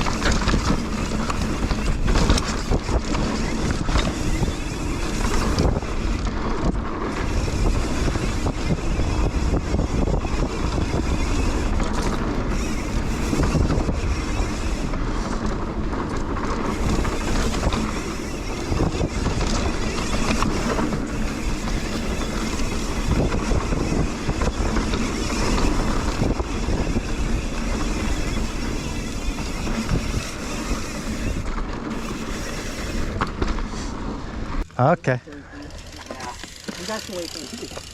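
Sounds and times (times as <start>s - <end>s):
wind buffeting microphone: 0.0s - 34.6s
bike rattling and knocking: 0.0s - 34.9s, 35.5s - 37.9s.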